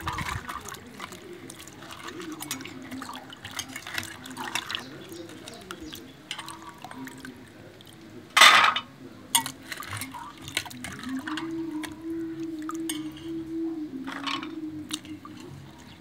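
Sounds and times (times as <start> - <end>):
hands rubbing pods in water: 0.0 - 8.5, 9.3 - 16.0
water sloshing and dripping: 0.0 - 16.0.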